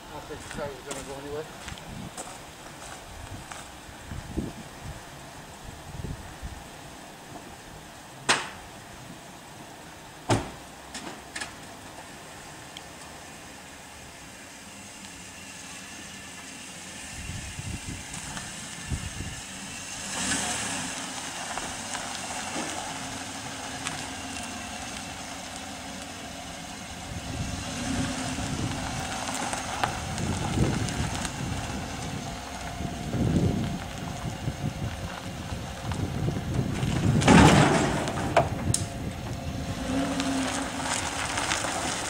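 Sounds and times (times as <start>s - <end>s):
motor vehicle engine rumbling: 0.0s - 42.0s.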